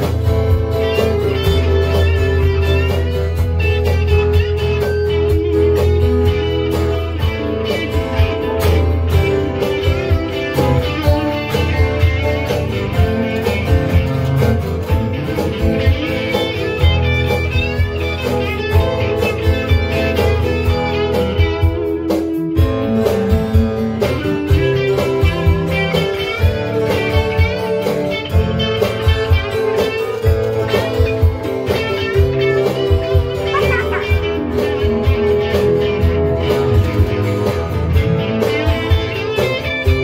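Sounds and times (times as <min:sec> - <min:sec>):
electric guitars: 0:00.0 - 0:40.0
keyboard playing: 0:00.0 - 0:40.0
steady beat: 0:00.0 - 0:40.0.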